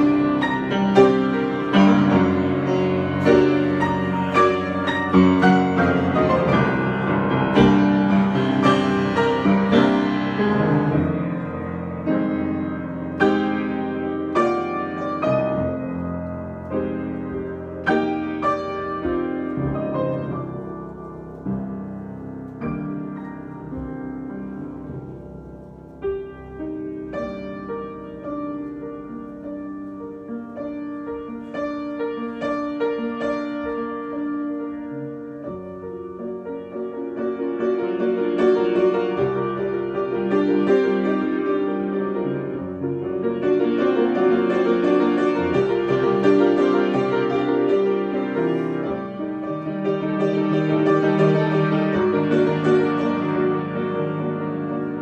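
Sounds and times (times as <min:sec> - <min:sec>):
solo piano improvisation: 0:00.0 - 0:55.0.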